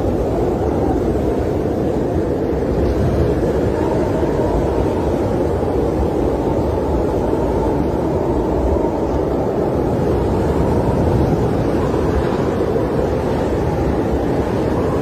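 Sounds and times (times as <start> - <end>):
low rumbling snowstorm wind: 0.0 - 15.0.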